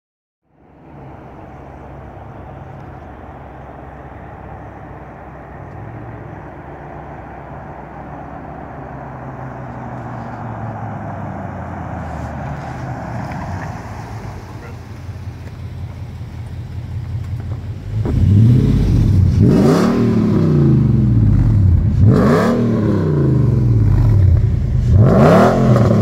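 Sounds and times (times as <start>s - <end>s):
truck exhaust rumble: 0.6s - 26.0s.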